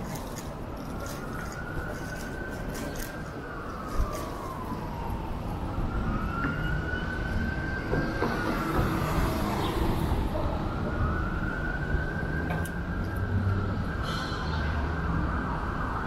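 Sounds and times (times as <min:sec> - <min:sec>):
emergency siren wailing: 0:00.0 - 0:16.0
street traffic rumble: 0:00.0 - 0:16.0.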